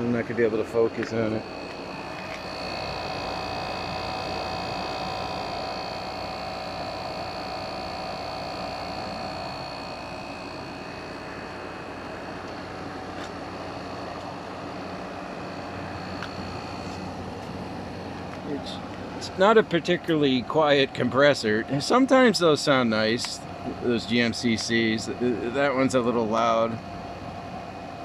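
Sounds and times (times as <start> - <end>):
air conditioner running: 0.0 - 28.0.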